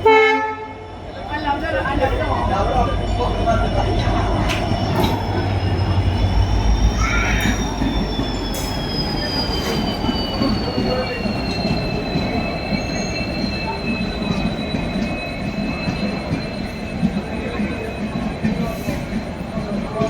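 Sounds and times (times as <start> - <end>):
train coaches rumbling: 0.0 - 20.0
high two-tone brake squeal: 1.4 - 19.3.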